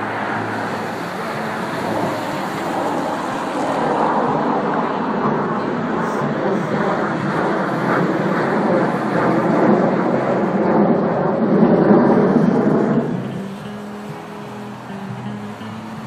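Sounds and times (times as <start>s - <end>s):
fighter jets roaring overhead: 0.0s - 16.0s.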